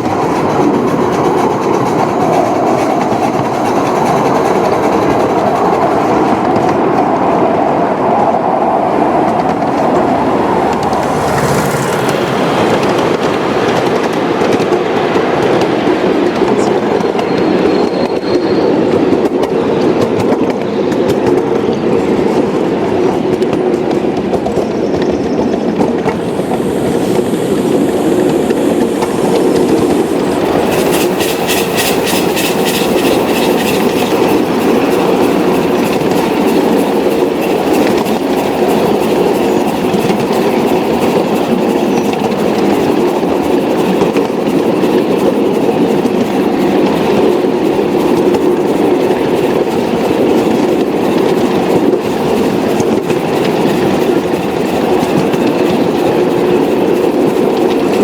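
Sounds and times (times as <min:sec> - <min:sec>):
wheels clicking over rail joints: 0:00.0 - 0:18.2, 0:18.9 - 0:58.0
train rolling rumble: 0:00.0 - 0:58.0.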